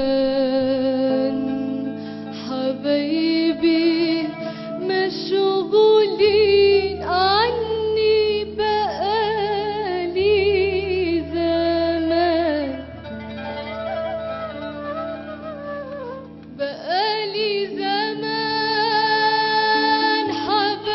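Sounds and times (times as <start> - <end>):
lead melody with wide vibrato: 0.0 - 20.9.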